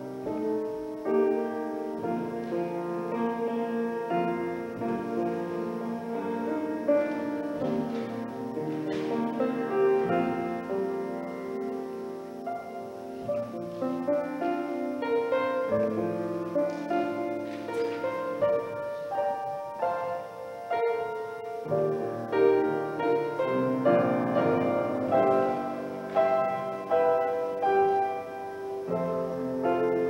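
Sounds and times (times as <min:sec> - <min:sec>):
solo keyboard music: 0:00.0 - 0:30.0.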